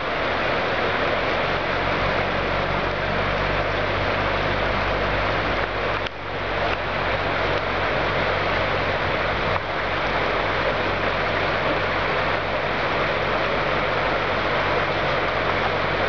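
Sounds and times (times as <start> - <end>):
rain and water hissing: 0.0 - 16.0
vehicle engine idling: 0.0 - 16.0.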